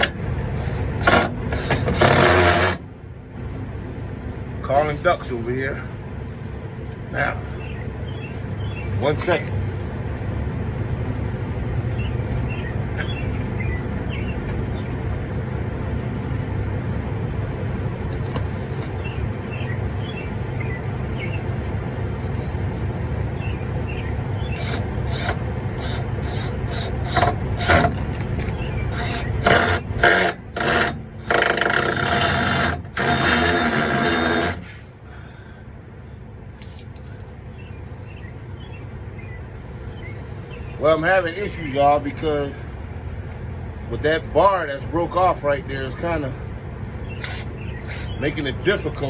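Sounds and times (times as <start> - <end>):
low vehicle rumble: 0.0 - 49.0.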